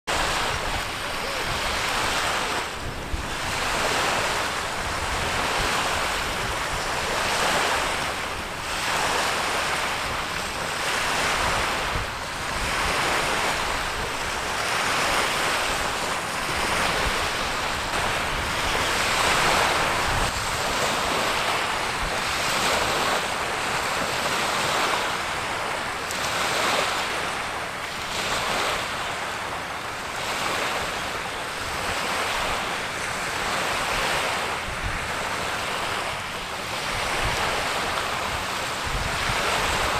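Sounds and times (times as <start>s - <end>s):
wind buffeting microphone: 0.1s - 27.5s, 30.3s - 39.9s
small waves washing on stony shore: 0.1s - 39.9s.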